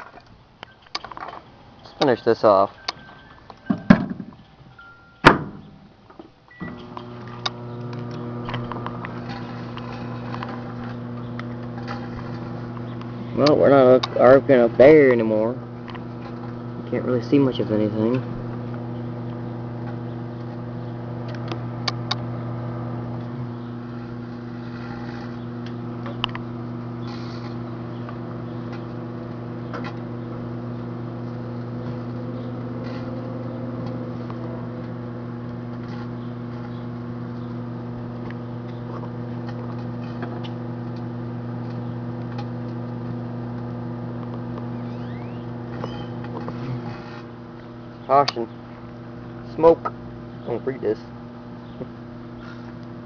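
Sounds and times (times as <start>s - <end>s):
microwave oven humming: 1.8s - 53.0s.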